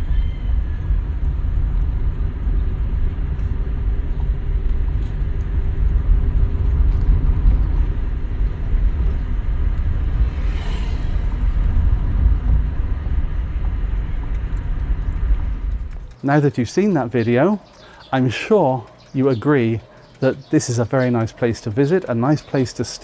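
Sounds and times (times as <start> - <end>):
road and engine rumble: 0.0 - 23.0.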